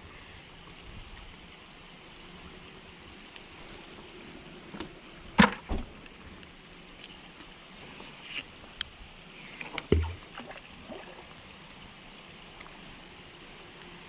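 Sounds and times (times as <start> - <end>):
light rain falling: 0.0 - 9.9, 10.8 - 14.0.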